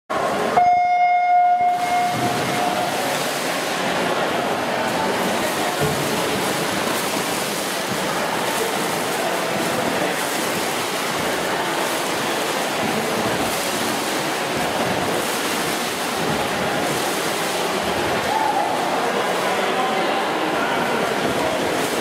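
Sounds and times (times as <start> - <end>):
swimmers splashing in pool: 0.1 - 22.0.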